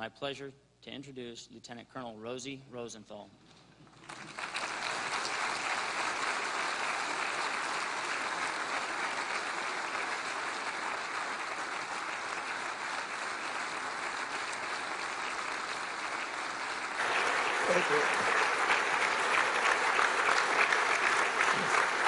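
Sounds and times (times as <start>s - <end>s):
audience applauding: 4.0s - 22.0s.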